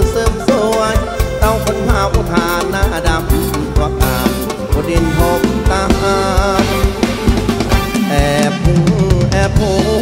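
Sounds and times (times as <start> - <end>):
bass: 0.0 - 10.0
drum kit beat: 0.0 - 10.0.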